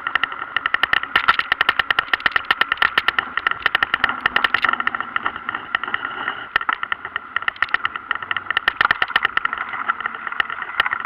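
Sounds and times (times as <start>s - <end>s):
bike rattling clicks: 0.0s - 11.0s
steady whirring hum: 0.0s - 11.0s.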